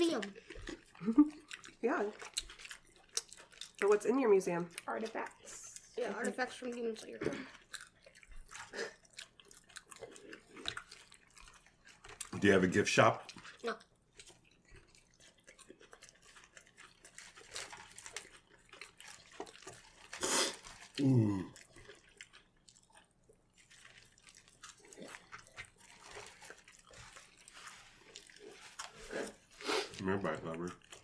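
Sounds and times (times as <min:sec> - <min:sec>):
people chewing: 0:00.0 - 0:31.0.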